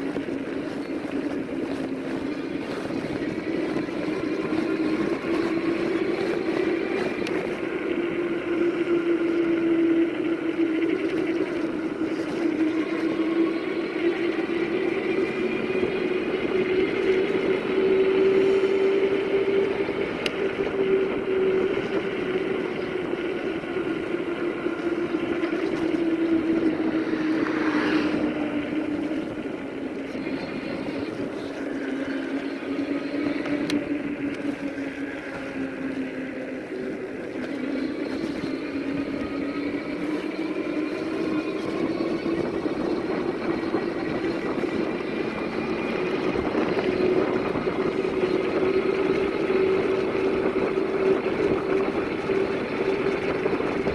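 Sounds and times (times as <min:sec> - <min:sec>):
electric bike motor hum: 0:00.0 - 0:53.9.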